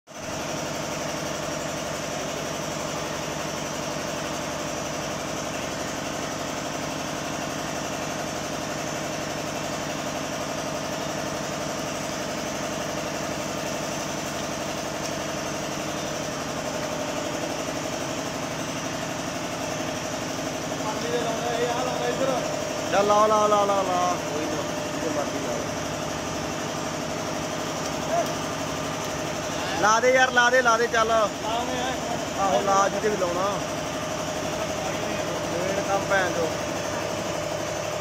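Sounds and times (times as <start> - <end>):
vacuum pump motor humming: 0.1 - 38.0.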